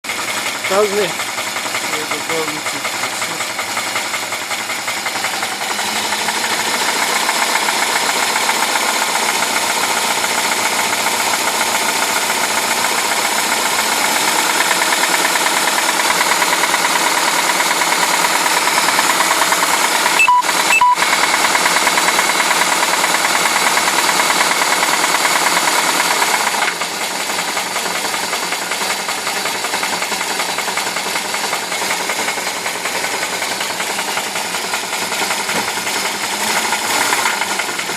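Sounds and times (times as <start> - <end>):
car engine knocking: 0.0 - 37.9.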